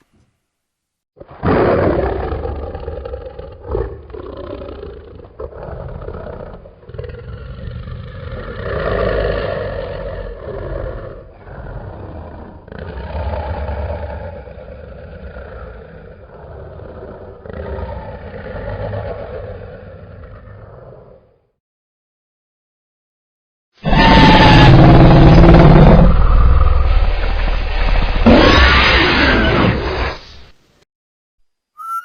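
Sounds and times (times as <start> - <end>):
deep monster roar: 1.2 - 21.5, 23.8 - 29.8.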